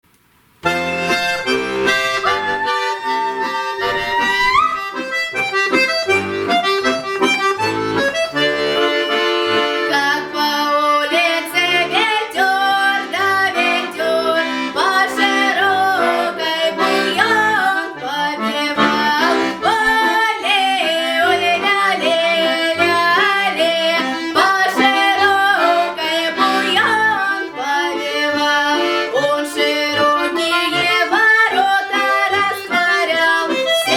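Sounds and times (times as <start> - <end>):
instrumental music with reed melody: 0.6 - 33.9.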